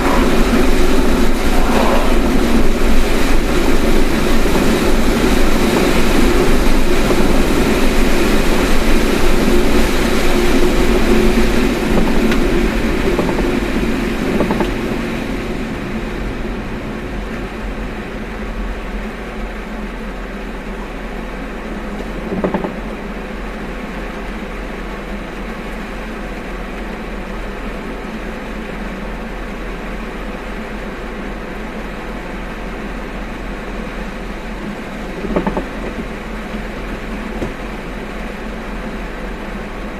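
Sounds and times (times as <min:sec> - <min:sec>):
road noise inside moving car: 0:00.0 - 0:39.9.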